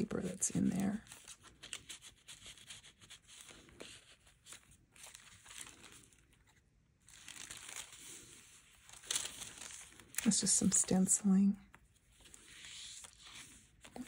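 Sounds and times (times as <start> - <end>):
page turning: 0.0 - 11.0, 11.7 - 14.0
paper rustling and crinkling: 0.0 - 14.0.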